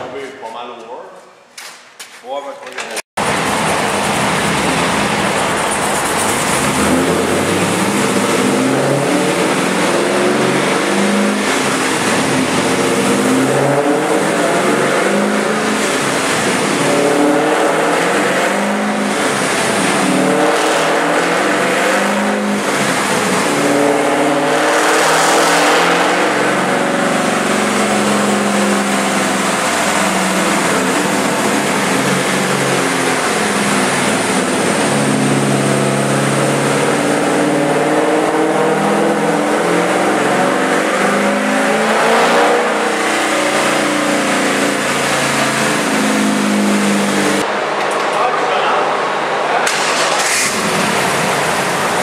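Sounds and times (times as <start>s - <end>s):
engine running under load: 3.2s - 52.0s.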